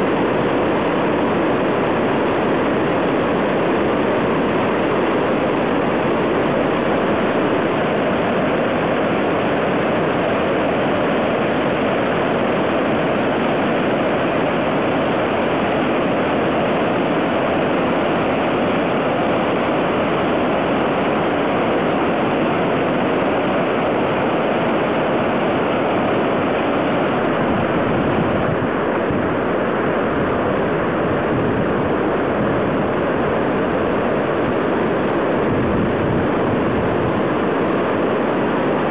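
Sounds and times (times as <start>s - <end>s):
river roaring through gorge: 0.0s - 38.9s.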